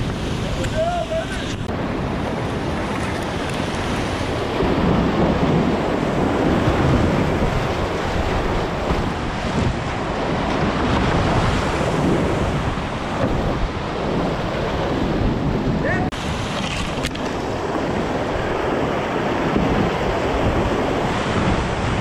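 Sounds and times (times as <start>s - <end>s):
whitewater rushing and splashing: 0.0s - 22.0s.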